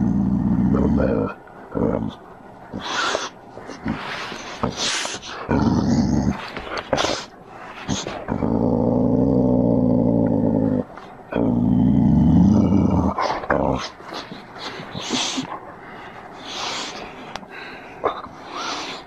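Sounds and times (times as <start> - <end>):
dog growling: 0.0 - 15.7.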